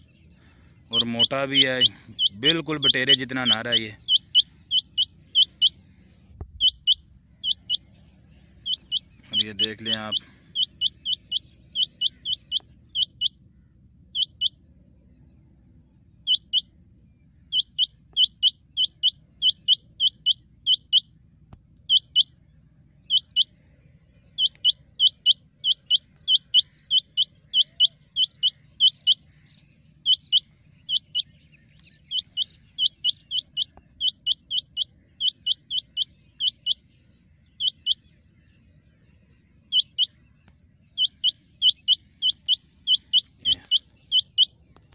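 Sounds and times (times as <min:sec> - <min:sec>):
quail calls: 0:00.0 - 0:14.6, 0:16.2 - 0:16.8, 0:17.4 - 0:21.1, 0:21.8 - 0:38.6, 0:39.6 - 0:44.9.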